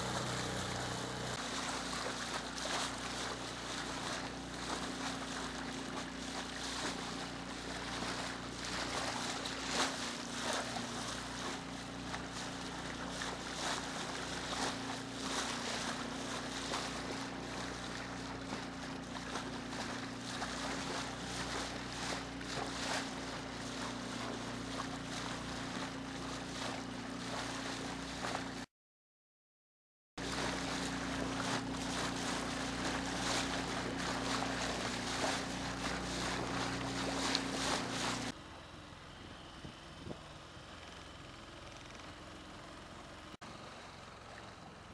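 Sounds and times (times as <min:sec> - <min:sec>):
boat engine idling: 0:00.0 - 0:28.6, 0:30.2 - 0:44.9
sea water splashing: 0:00.0 - 0:28.6, 0:30.2 - 0:38.3.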